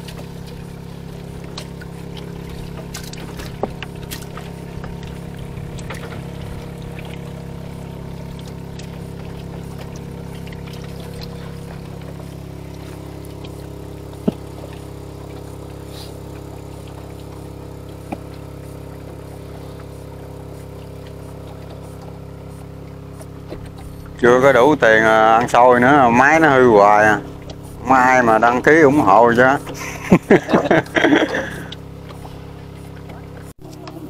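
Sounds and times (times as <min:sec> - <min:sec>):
boat engine idling: 0:00.0 - 0:34.0.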